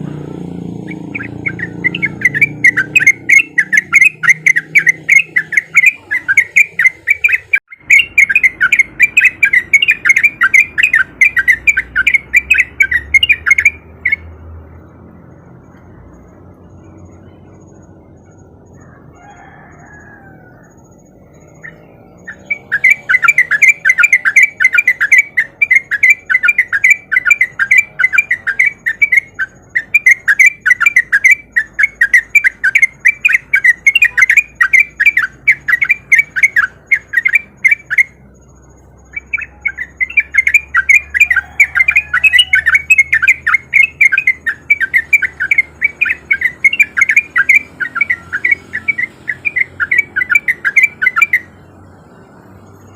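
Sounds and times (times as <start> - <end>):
bird singing rapid chattering song: 0.1 - 18.8, 20.6 - 52.9.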